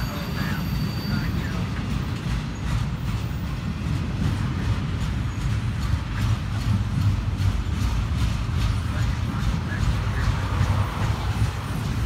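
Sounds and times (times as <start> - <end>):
train wheels rumbling on rail: 0.0 - 12.0
wheels clacking on track: 0.0 - 12.0.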